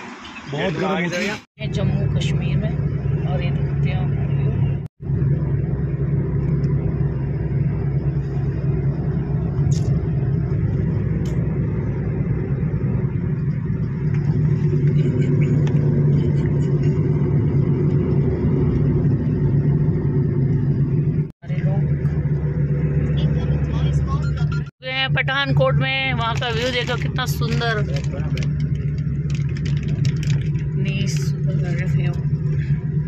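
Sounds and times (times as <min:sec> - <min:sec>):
car engine and tyre drone: 0:00.0 - 0:26.1, 0:27.9 - 0:33.0.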